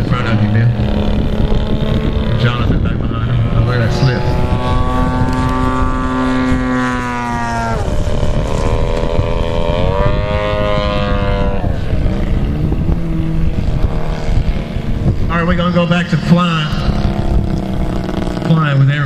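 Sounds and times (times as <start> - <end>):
model airplane engines: 0.0 - 19.0.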